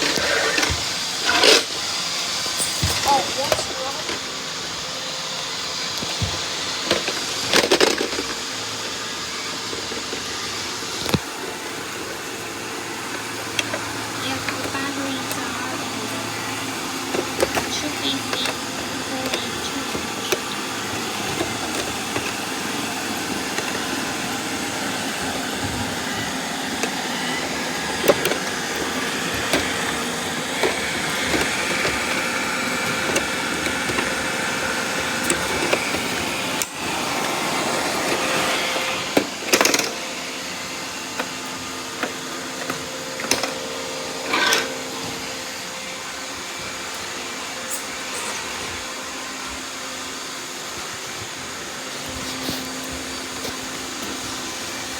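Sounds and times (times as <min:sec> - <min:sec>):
robot vacuum cleaner running: 0:00.0 - 0:54.9.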